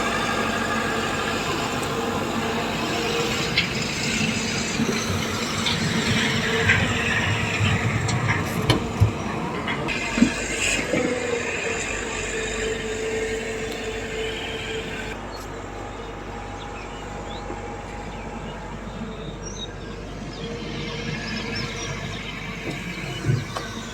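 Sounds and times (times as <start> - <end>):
excavator engine and hydraulics: 0.0 - 23.9
steady whine: 0.0 - 23.9.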